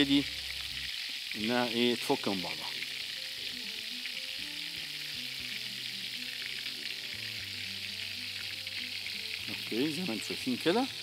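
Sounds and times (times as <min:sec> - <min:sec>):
boiling water poured into strainer: 0:00.0 - 0:11.0
oil sizzling in a pan: 0:00.0 - 0:11.0.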